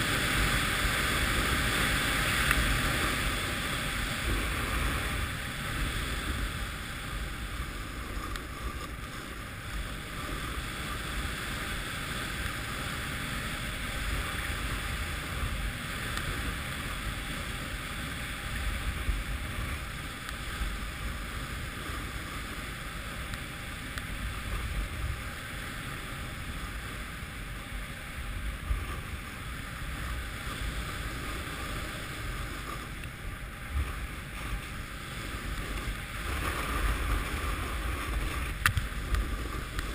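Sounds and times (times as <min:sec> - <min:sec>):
snowboard sliding on snow: 0:00.0 - 0:39.9
wind rumbling on microphone: 0:00.0 - 0:39.9.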